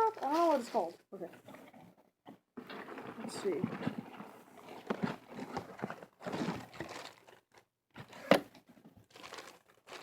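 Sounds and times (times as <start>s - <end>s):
plastic packaging rustling and crinkling: 0.0s - 1.3s, 2.6s - 10.0s.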